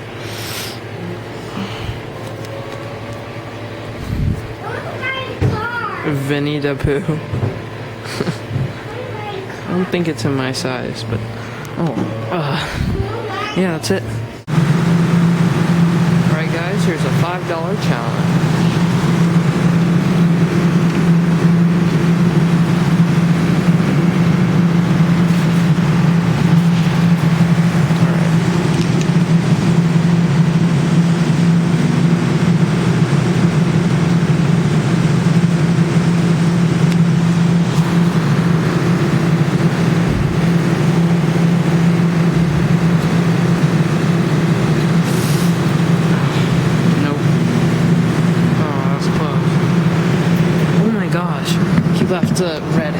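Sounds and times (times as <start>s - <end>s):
low electrical hum: 0.0s - 52.9s.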